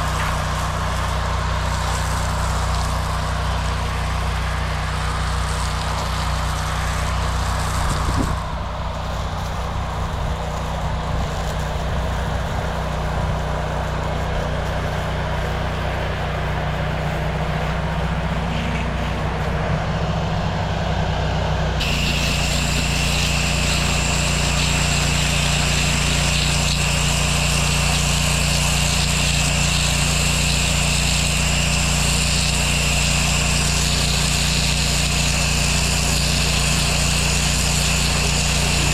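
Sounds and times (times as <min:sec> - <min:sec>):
pressure washer engine running: 0:00.0 - 0:38.9
water spraying hiss and whine: 0:00.0 - 0:38.9.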